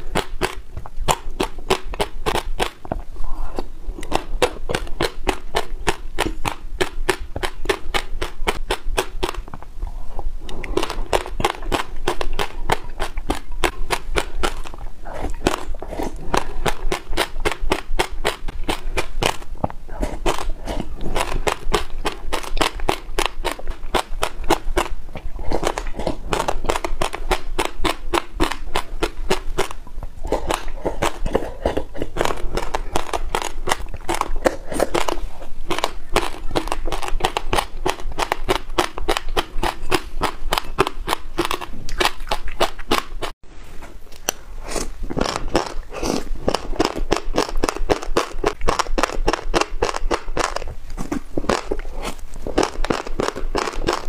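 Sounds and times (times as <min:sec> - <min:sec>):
seeds crunching while chewing: 0:00.0 - 0:43.3, 0:44.1 - 0:54.0.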